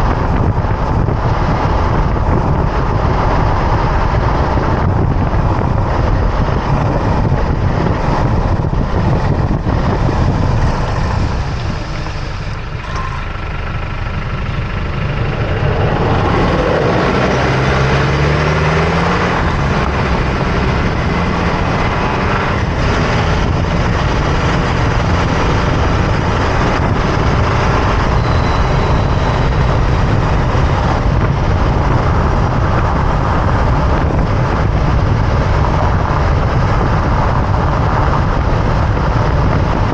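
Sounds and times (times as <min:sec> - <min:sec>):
road and wind noise: 0:00.0 - 0:39.9
truck engine accelerating: 0:00.0 - 0:39.9.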